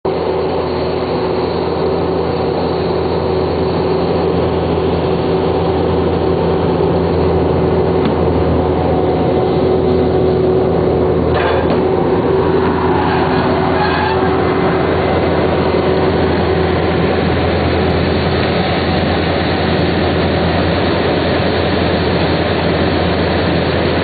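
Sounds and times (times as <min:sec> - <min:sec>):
directional drill droning and whining: 0:00.1 - 0:24.0.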